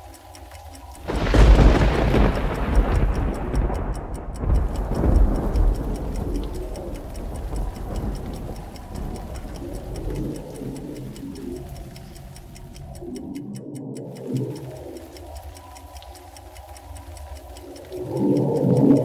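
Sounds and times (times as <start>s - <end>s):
clock ticking: 0.0s - 19.0s.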